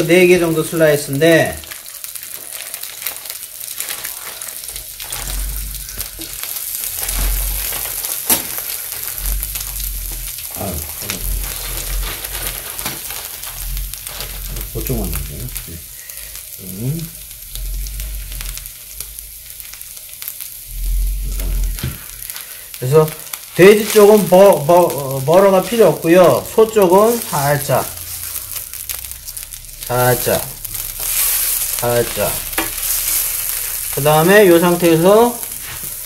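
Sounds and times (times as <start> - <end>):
butter bubbling: 0.0 - 36.0
meat sizzling on a griddle: 0.0 - 36.0.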